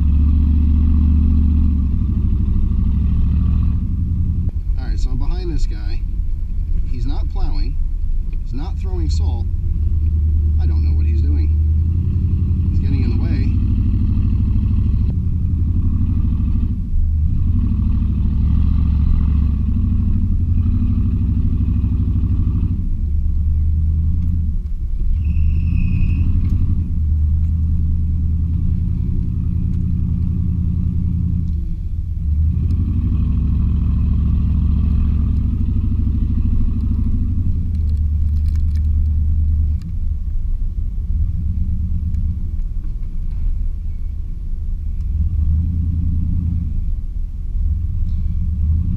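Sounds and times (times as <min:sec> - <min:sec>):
truck engine droning while driving: 0:00.0 - 0:48.9.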